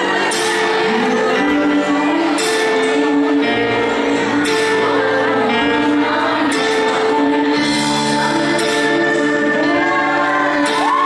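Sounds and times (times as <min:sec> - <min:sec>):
live concert music: 0:00.0 - 0:11.0
person singing: 0:00.0 - 0:11.0.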